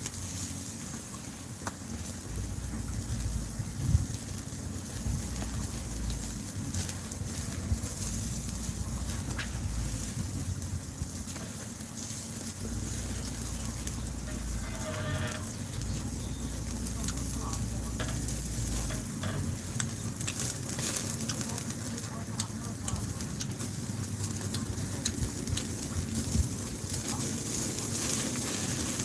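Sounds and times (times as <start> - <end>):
faint crackles and clicks: 0.0 - 29.0
wind buffeting microphone: 2.1 - 20.3, 22.9 - 29.0.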